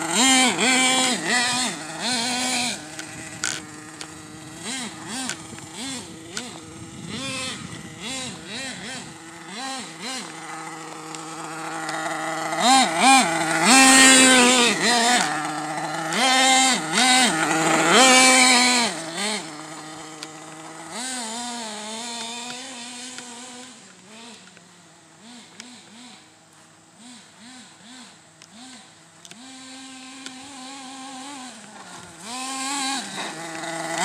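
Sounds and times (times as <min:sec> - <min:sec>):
small nitro engine revving: 0:00.0 - 0:34.0.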